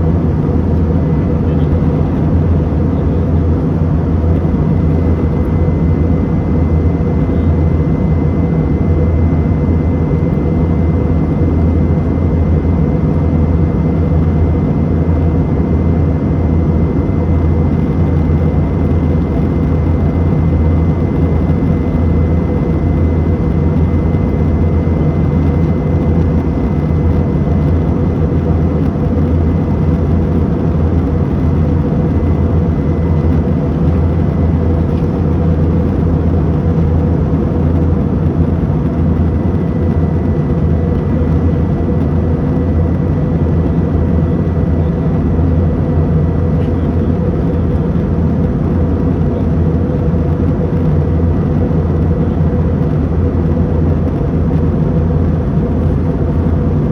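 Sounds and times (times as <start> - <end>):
airplane cabin drone: 0.0 - 56.9.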